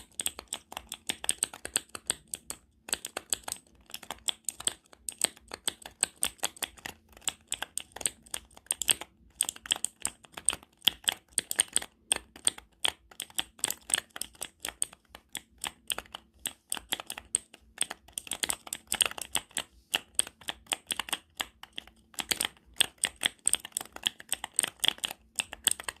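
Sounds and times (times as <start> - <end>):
keyboard typing: 0.0 - 26.0.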